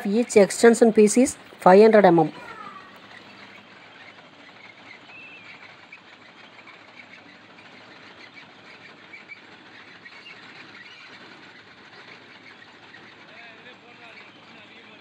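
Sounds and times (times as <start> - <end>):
bird warbling call: 0.0 - 15.0
birds chirping faintly: 0.0 - 15.0
outdoor background hiss: 0.0 - 15.0.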